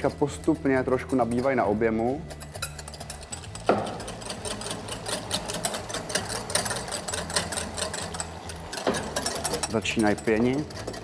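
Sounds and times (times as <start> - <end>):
whisk clicking against glass bowl: 0.0 - 11.0.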